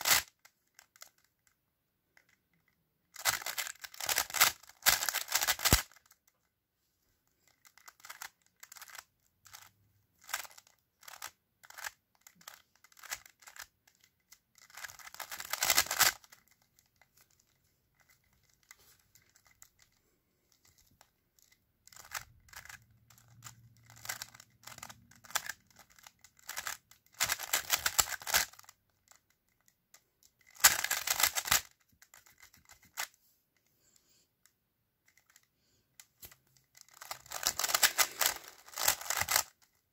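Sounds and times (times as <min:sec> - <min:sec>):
puzzle cube clicking turns: 0:00.0 - 0:06.4, 0:07.2 - 0:39.9.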